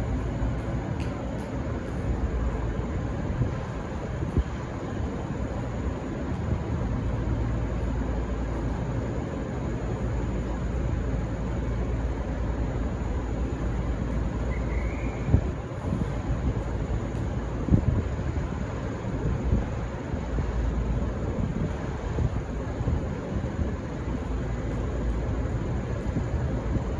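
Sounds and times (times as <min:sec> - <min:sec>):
diesel railcars rumbling: 0:00.0 - 0:26.9.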